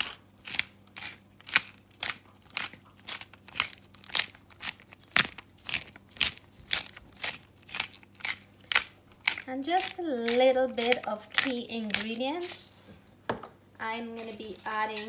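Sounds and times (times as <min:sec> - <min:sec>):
pepper mill grinding: 0:00.0 - 0:12.9, 0:14.2 - 0:15.0.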